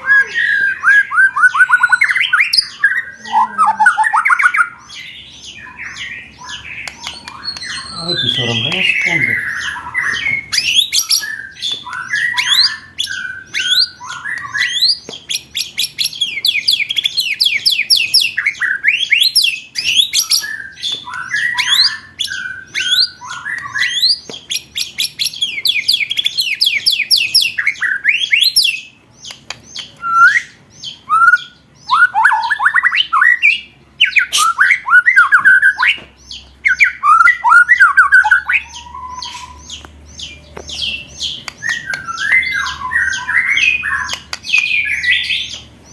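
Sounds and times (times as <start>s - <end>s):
harsh chattering bird calls: 0.0s - 45.9s
songbird singing rolling trills: 0.0s - 45.9s.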